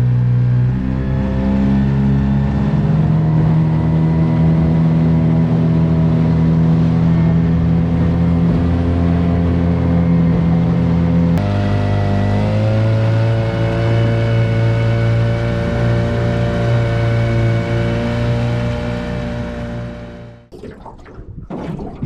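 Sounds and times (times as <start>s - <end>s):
boat motor running: 0.0s - 20.5s.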